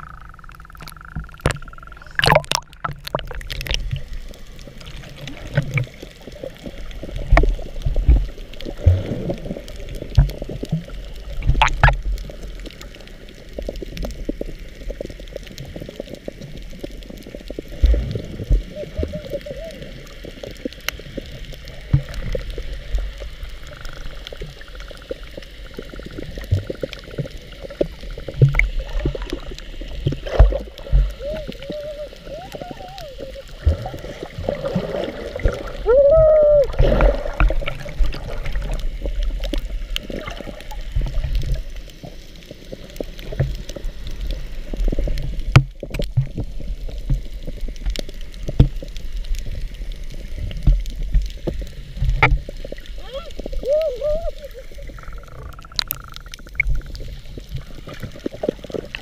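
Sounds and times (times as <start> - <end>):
underwater sloshing and gurgling: 0.0 - 59.0.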